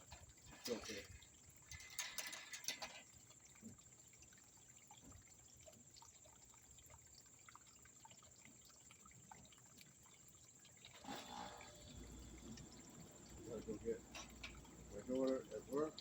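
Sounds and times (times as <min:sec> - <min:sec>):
water dripping and trickling: 0:00.0 - 0:16.0.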